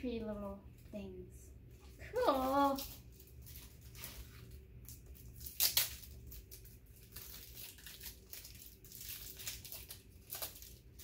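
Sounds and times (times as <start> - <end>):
wrapped packet crinkling: 2.1 - 11.0.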